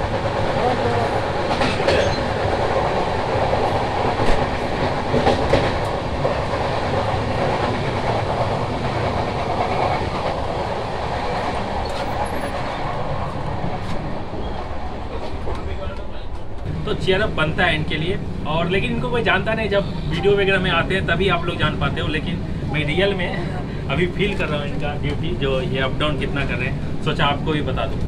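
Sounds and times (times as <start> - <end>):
train carriage rumbling and rattling: 0.0 - 28.0.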